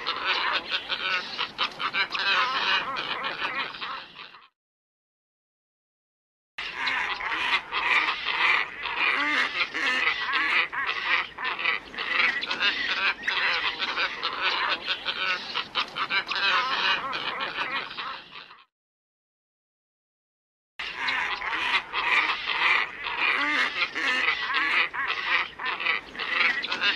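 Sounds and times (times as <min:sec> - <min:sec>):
ibises croaking calls: 0:00.0 - 0:04.5, 0:06.6 - 0:18.7, 0:20.8 - 0:26.9.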